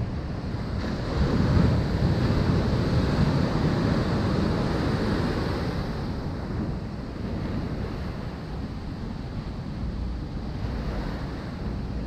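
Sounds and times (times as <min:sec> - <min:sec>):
ocean surf washing up beach: 0:00.0 - 0:12.0
wind rumbling on microphone: 0:00.0 - 0:12.0.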